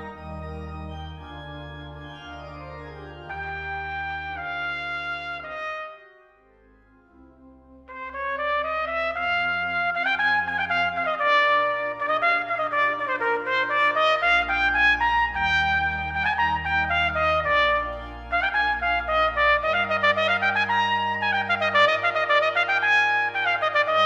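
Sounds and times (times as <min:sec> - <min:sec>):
trumpet melody: 0:00.0 - 0:06.4, 0:07.9 - 0:24.0
low organ notes: 0:00.0 - 0:24.0.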